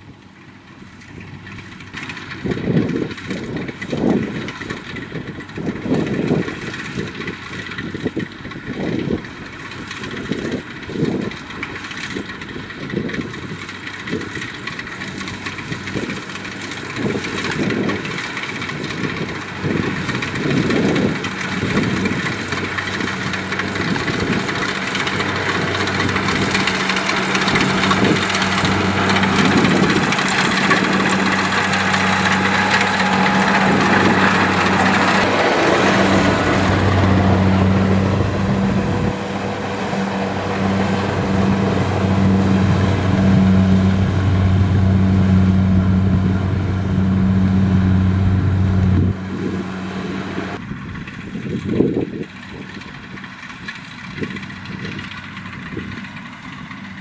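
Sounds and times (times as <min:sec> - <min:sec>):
combine harvester engine hum: 0:00.0 - 0:57.0
cutting and threshing noise: 0:00.9 - 0:57.0.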